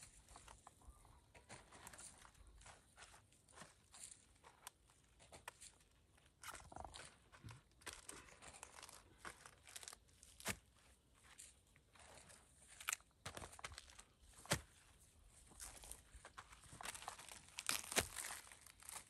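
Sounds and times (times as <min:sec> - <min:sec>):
crunching footsteps on rough path: 0:00.0 - 0:19.0.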